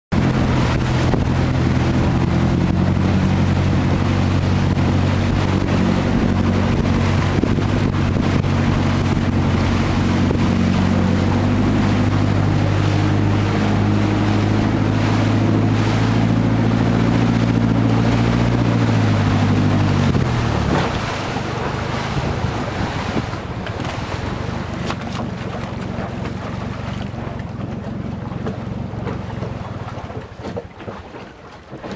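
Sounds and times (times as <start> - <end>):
motorboat engine running: 0.1 - 31.9
rushing water: 0.1 - 31.9
wind: 0.1 - 31.9.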